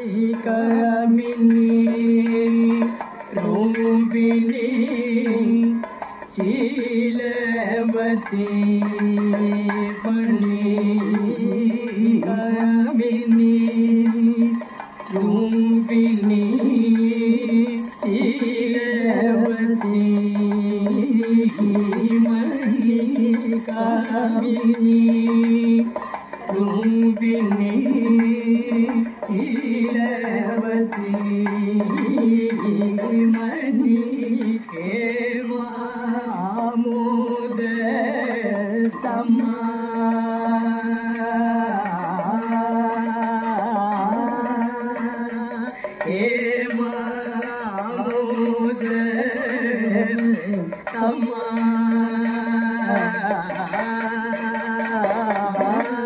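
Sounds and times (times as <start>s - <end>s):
light percussion: 0.0s - 56.0s
men singing: 0.0s - 56.0s.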